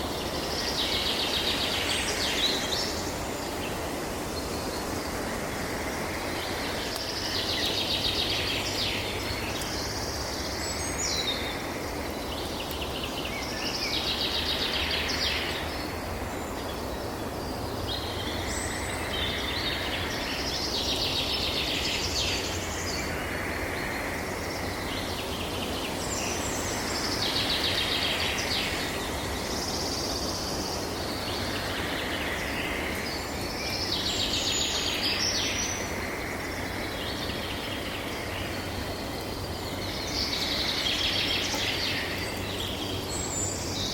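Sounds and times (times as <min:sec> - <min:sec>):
songbird singing: 0:00.0 - 0:43.9
wind-like outdoor rush: 0:00.0 - 0:43.9.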